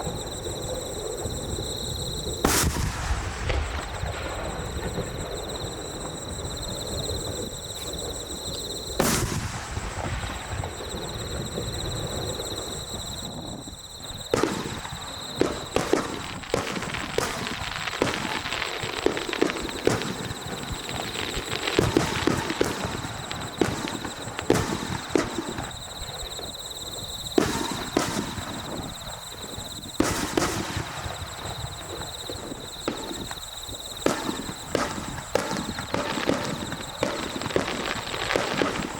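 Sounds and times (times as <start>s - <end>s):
fireworks big bang: 0.0s - 38.9s
fireworks popping and crackling: 0.0s - 38.9s.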